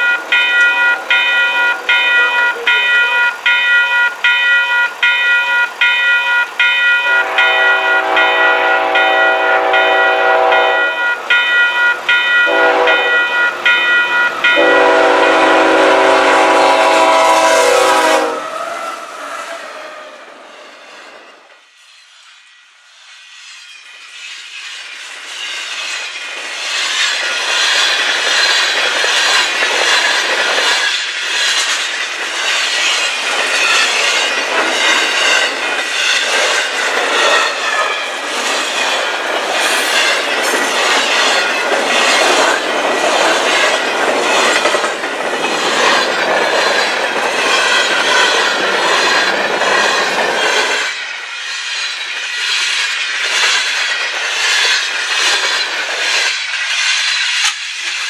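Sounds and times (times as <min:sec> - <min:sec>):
steel wheels clattering on rail: 0:00.0 - 0:58.0.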